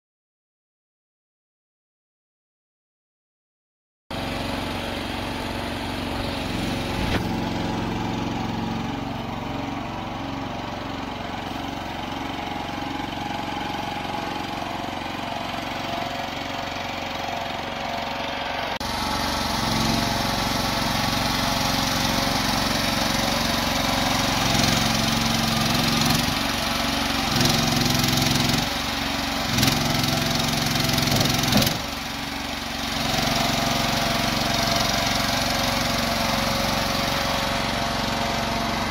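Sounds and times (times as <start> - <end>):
small loader engine running: 4.1 - 38.9.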